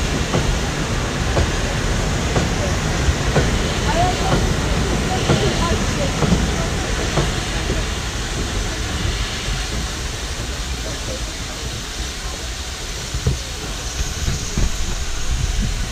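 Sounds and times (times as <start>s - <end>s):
crowd talking: 0.0s - 15.9s
steam hissing: 0.0s - 15.9s
steam locomotive rumbling: 0.0s - 15.9s.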